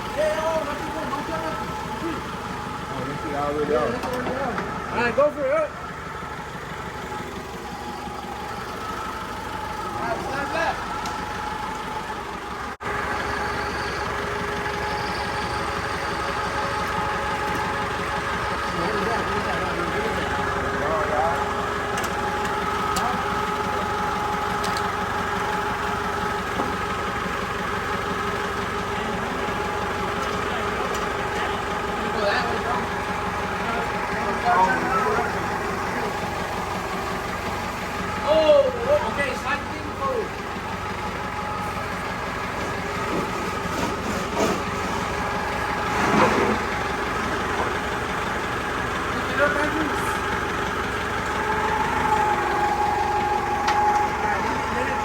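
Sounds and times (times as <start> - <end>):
engine humming steadily: 0.0 - 55.0.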